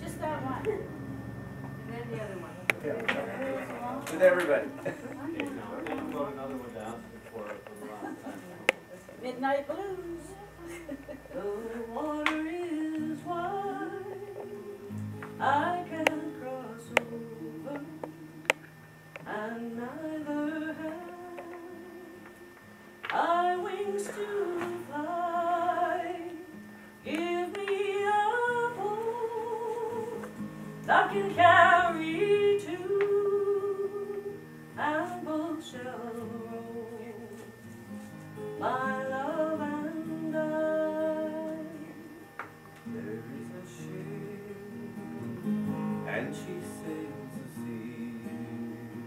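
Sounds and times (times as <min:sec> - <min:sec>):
acoustic guitar: 0:00.0 - 0:49.0
woman singing a slow song: 0:08.8 - 0:49.0.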